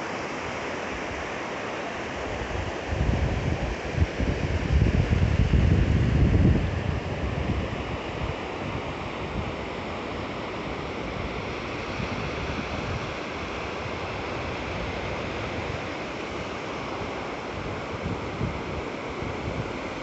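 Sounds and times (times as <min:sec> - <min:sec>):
small waves washing on beach: 0:00.0 - 0:20.0
wind rumbling on microphone: 0:02.2 - 0:20.0.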